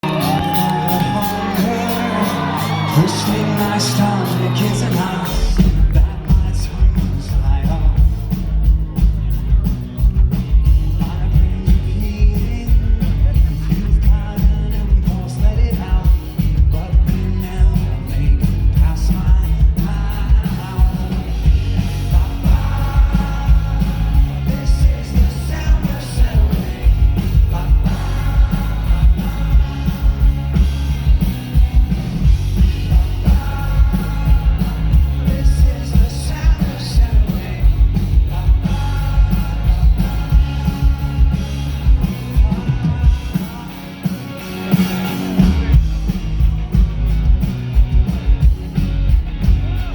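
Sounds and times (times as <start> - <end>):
lead vocal singing: 0.0 - 9.0, 10.6 - 46.9
rock band playing live: 0.0 - 49.9.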